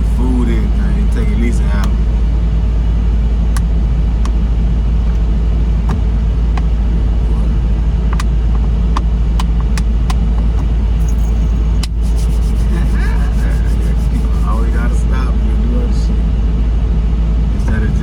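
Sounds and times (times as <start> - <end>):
car rumbling: 0.0 - 18.0.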